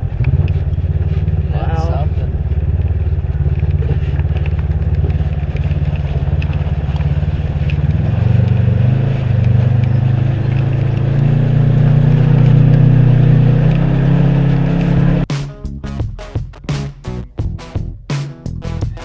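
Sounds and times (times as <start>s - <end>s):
vehicle engine revving: 0.0s - 15.4s.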